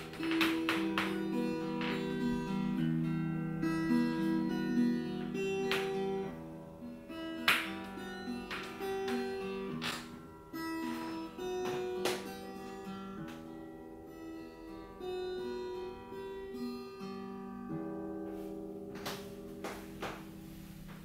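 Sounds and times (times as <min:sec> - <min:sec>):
acoustic guitar plucked notes: 0:00.0 - 0:21.0.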